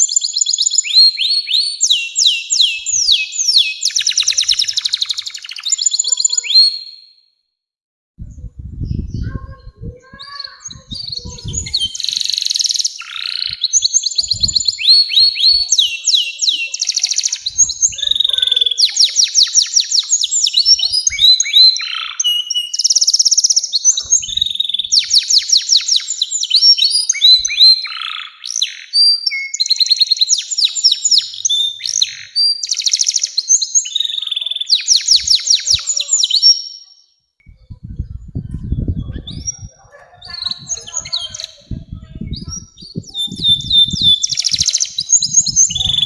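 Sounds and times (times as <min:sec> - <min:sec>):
canary singing trills: 0:00.0 - 0:07.2, 0:08.4 - 0:46.0.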